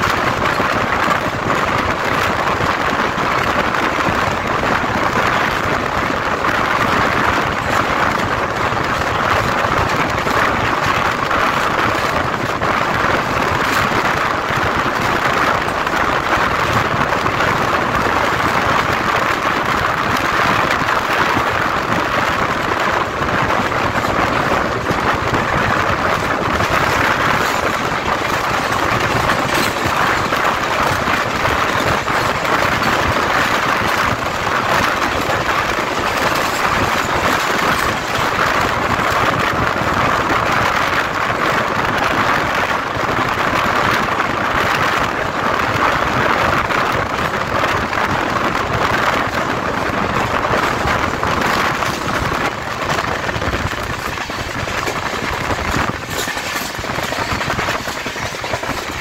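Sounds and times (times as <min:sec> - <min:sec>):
train running noise: 0:00.0 - 0:59.0.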